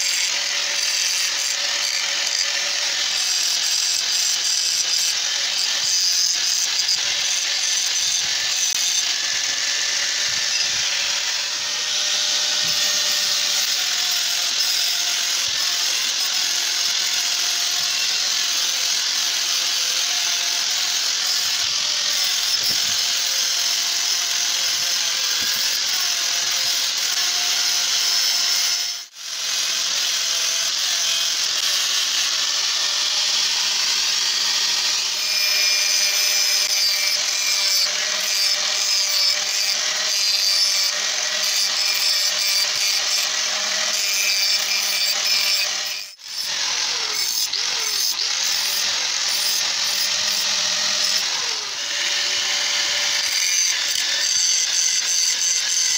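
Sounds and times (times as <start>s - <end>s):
angle grinder grinding metal: 0.0s - 55.9s.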